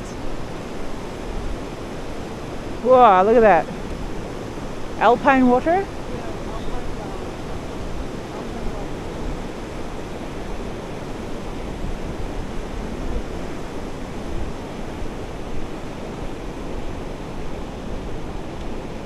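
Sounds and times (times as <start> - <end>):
river rushing: 0.0 - 19.0
wind buffeting microphone: 0.0 - 19.0.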